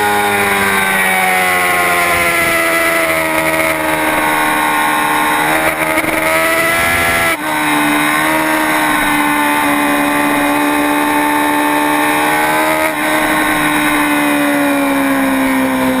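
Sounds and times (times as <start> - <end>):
superbike engine at high revs: 0.0 - 16.0.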